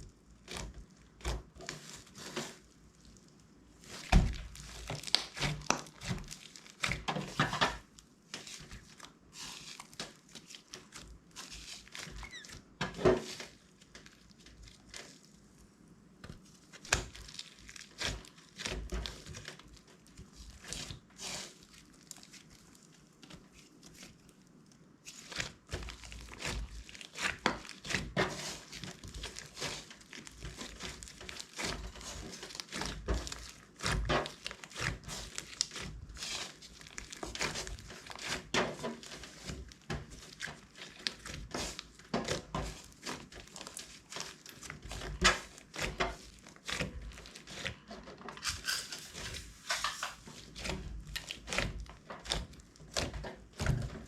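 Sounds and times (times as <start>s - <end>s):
slime squished by hand: 0.4s - 7.1s, 16.2s - 54.0s.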